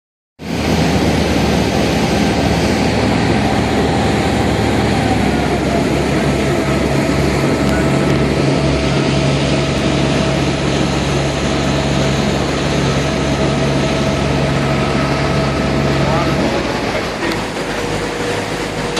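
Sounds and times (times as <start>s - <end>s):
boat engine droning: 0.4s - 18.9s.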